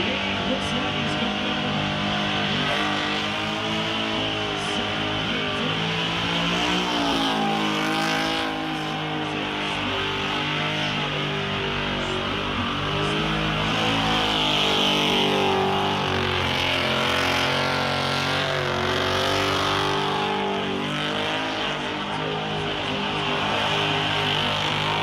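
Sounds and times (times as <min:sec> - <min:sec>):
engine revving during burnout: 0:00.0 - 0:25.0.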